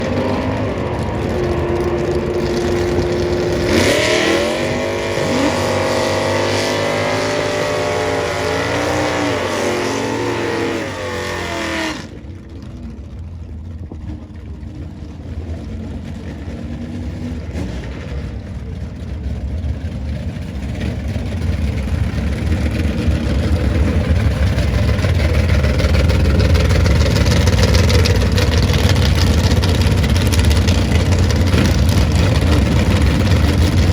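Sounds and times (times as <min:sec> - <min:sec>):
car engines revving: 0:00.0 - 0:33.9
deep engine rumble: 0:00.0 - 0:33.9.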